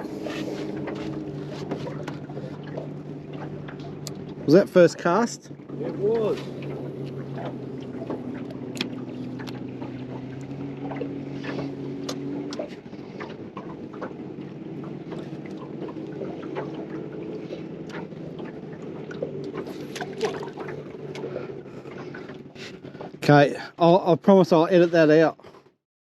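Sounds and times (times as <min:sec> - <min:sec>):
boat motor humming: 0:00.0 - 0:25.8.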